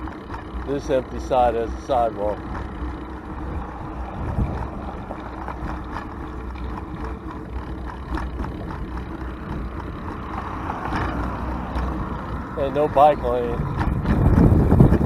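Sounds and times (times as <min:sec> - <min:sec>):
road traffic passing: 0:00.0 - 0:15.0
low wind rumble on microphone: 0:02.4 - 0:15.0.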